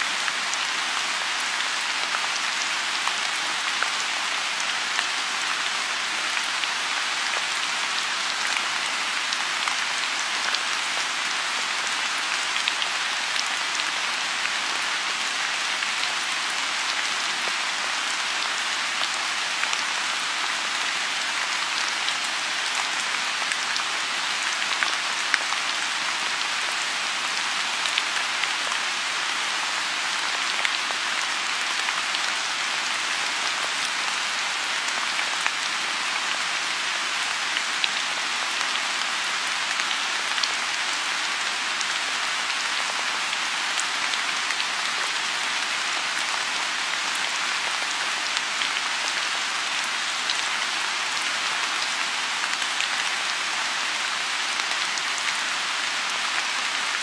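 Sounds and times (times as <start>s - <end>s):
rain falling on pond: 0.0s - 57.0s.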